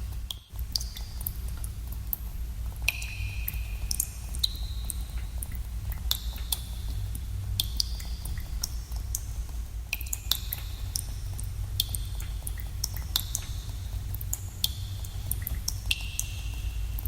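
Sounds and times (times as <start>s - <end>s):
water drops plinking in pools: 0.3s - 1.7s, 2.8s - 9.3s, 9.9s - 17.0s.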